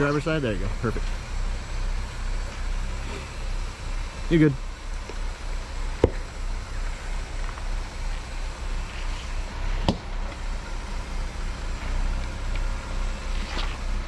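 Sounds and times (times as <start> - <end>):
engine running low: 0.0 - 14.0.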